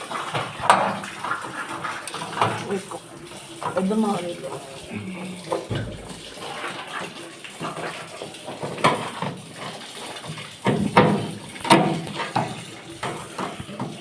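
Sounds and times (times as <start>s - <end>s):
sharp water splashes: 0.0s - 14.0s
water running from a tap: 0.0s - 14.0s.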